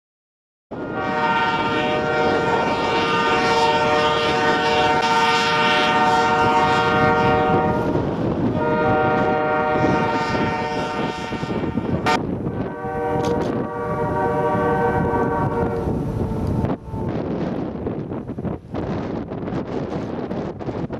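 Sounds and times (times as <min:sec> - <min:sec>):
locomotive air horn blasts: 0:00.7 - 0:17.5
passing train rumble: 0:00.7 - 0:20.9.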